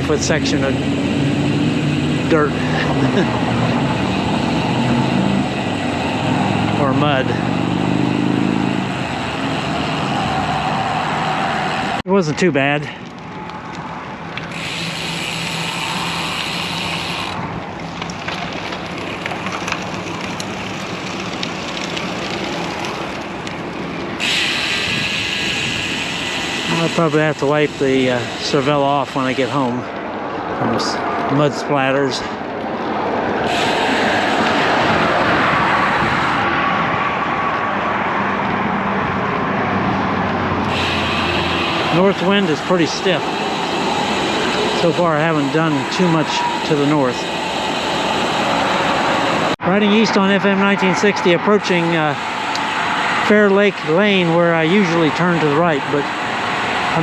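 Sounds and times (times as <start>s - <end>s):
passing vehicle engine hum: 0.0s - 12.0s, 13.3s - 29.3s, 29.9s - 57.0s
highway traffic rushing past: 0.0s - 57.0s
wind and road noise: 0.0s - 57.0s.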